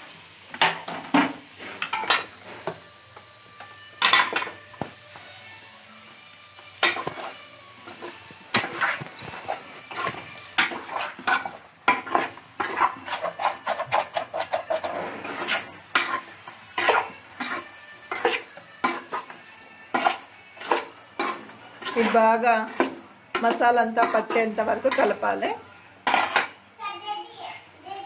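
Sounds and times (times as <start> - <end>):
metal spatula scraping a pan: 0.6 - 2.9, 3.6 - 4.8, 6.6 - 26.6.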